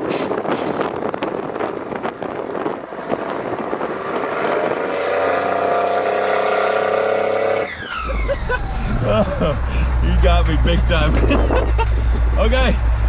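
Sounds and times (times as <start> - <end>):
diesel truck engine running hard: 0.0 - 13.0.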